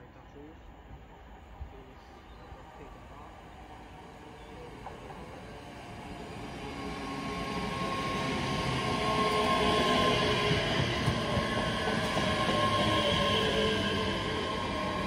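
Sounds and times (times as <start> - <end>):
electric train rumbling: 0.0 - 15.0
steady train whine: 0.0 - 15.0.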